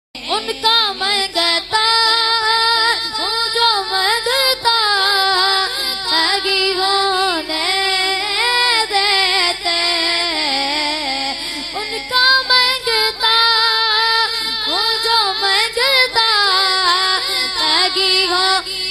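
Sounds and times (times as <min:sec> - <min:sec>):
boy singing into microphone: 0:00.2 - 0:18.9.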